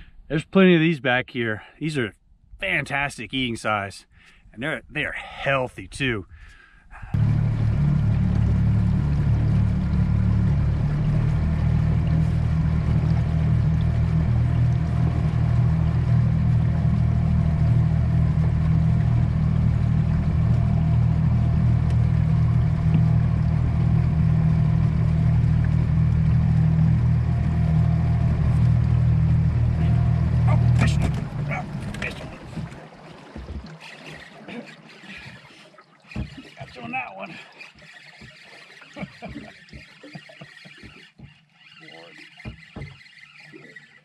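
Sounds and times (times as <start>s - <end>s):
boat motor droning: 7.0s - 44.0s.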